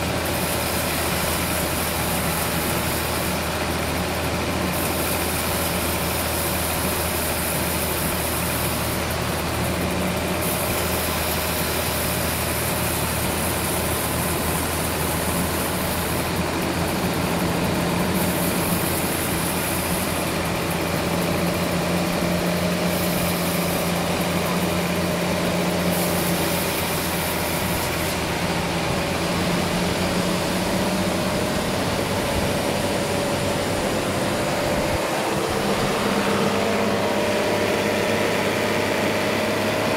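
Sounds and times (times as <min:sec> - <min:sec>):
high hiss: 0:00.0 - 0:39.9
sawmill machinery drone: 0:00.0 - 0:39.9.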